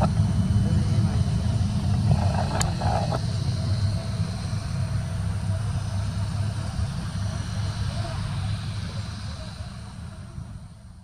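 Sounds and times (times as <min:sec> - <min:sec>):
turboprop aircraft droning: 0:00.0 - 0:11.0.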